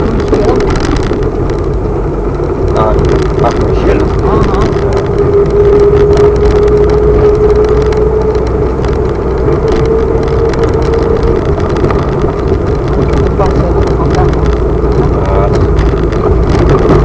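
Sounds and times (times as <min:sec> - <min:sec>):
low rumble: 0:00.0 - 0:17.0
vehicle engine running: 0:00.0 - 0:17.0.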